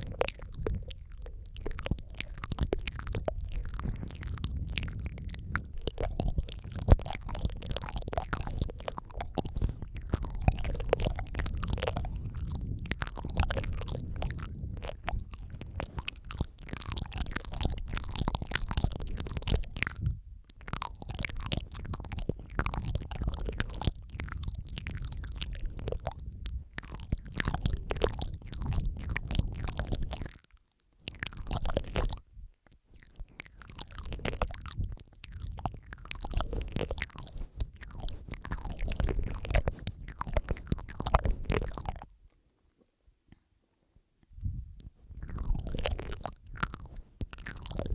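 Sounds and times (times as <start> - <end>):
wet mouth clicks and smacks: 0.0 - 42.2, 44.3 - 47.9.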